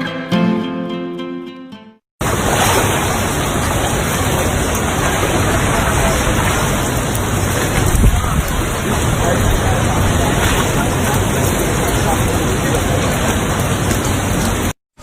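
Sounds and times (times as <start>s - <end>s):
loud steady rushing noise: 2.2s - 14.7s.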